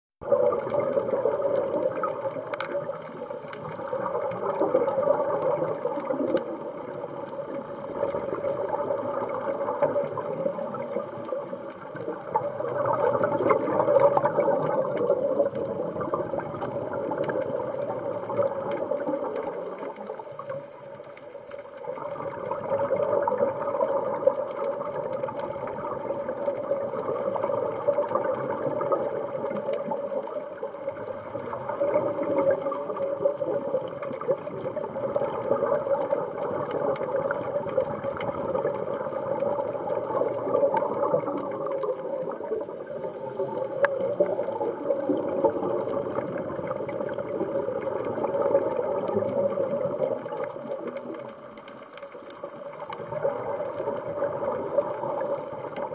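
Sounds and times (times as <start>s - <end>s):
underwater breathing bubbles: 0.2s - 55.9s.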